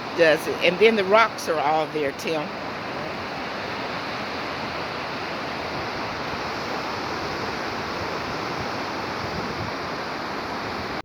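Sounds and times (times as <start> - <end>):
ocean surf washing on beach: 0.0 - 11.0.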